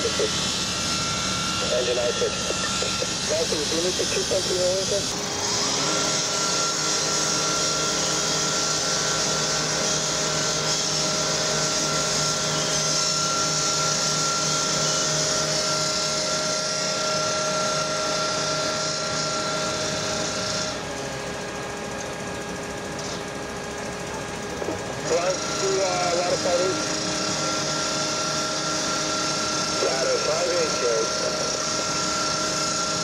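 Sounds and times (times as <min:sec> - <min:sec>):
motor whine: 0:00.0 - 0:33.0.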